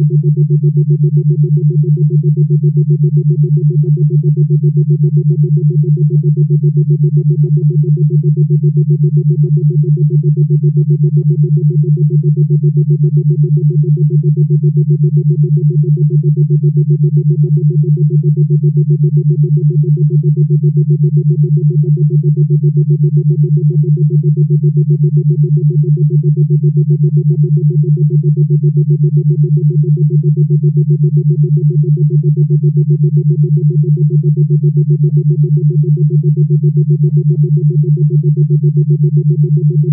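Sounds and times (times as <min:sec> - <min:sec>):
pulsing synthesized drone: 0:00.0 - 0:39.9.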